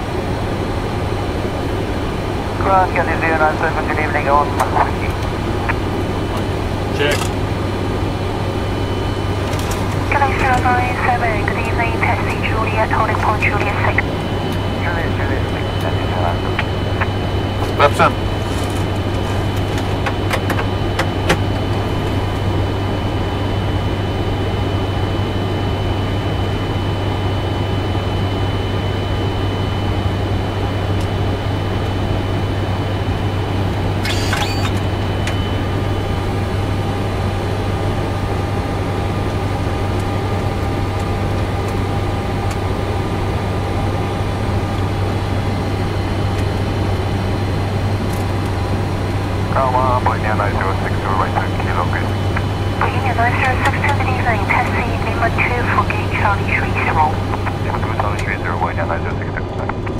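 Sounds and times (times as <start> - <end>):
aircraft engines humming: 0.0 - 59.9
faint high whine: 0.0 - 59.9.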